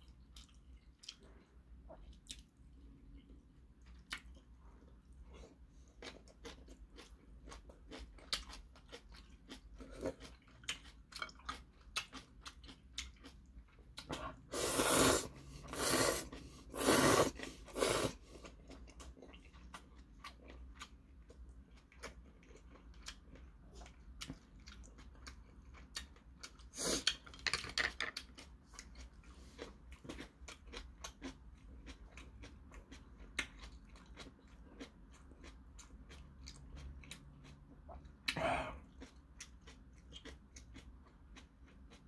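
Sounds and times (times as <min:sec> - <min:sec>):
person chewing noodles: 0:00.0 - 0:27.3, 0:28.1 - 0:42.0.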